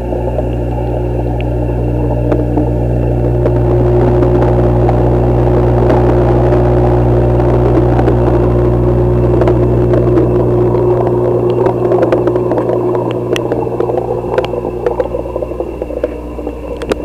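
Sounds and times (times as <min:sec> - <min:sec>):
aquarium pump hum and churn: 0:00.0 - 0:17.0
sharp clicks and ticks: 0:00.0 - 0:17.0.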